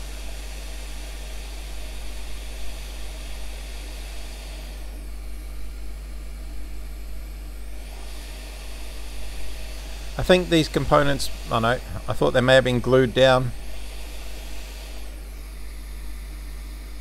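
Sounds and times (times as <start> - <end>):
hot air blower hissing: 0.0 - 6.1, 6.7 - 17.0
constant low hum: 0.0 - 17.0.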